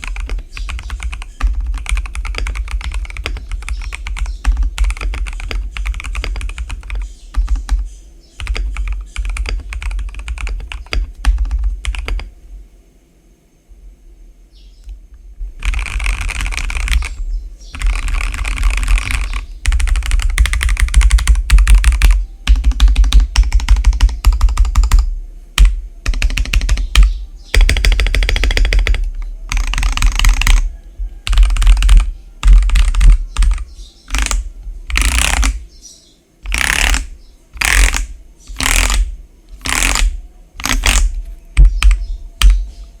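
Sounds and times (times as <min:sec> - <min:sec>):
mechanical keyboard typing: 0:00.0 - 0:07.8, 0:08.4 - 0:12.3, 0:15.6 - 0:35.6, 0:36.4 - 0:42.7.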